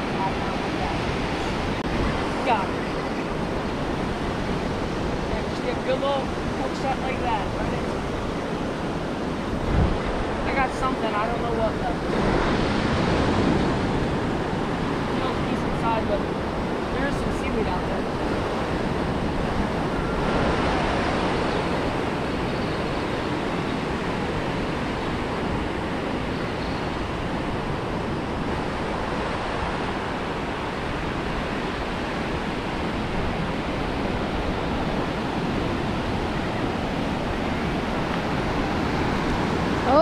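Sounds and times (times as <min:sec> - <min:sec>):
ocean surf breaking: 0:00.0 - 0:40.0.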